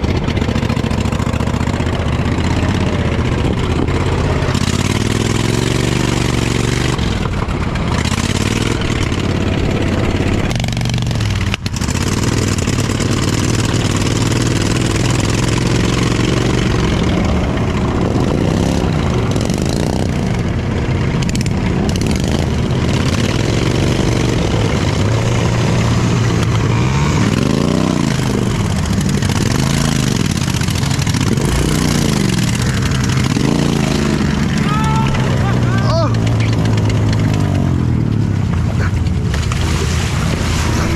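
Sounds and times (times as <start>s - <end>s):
lawnmower engine revving: 0.0s - 40.9s.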